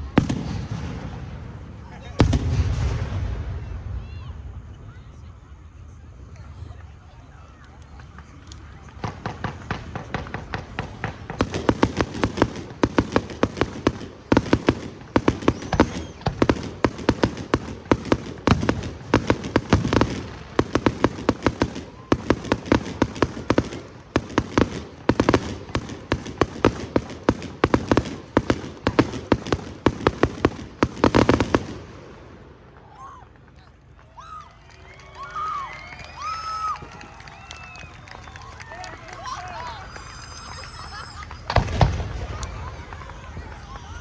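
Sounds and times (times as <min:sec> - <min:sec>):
fireworks bangs and crackles: 0:00.0 - 0:34.4, 0:35.2 - 0:44.0.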